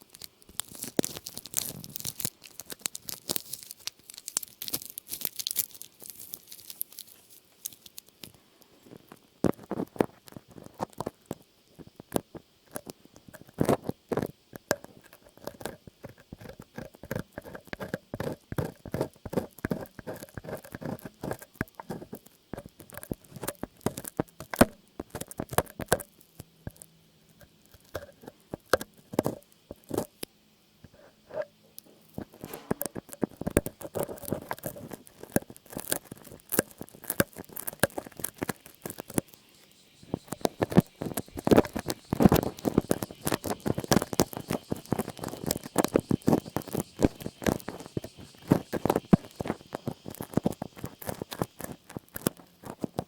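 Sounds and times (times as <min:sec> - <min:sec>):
light tapping and scratching: 0:00.5 - 0:53.0.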